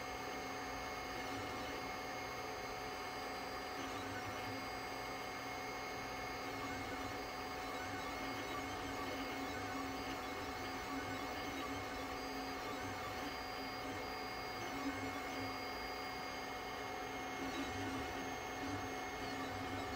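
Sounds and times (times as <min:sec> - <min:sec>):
printer humming with thin whine: 0:00.0 - 0:19.9.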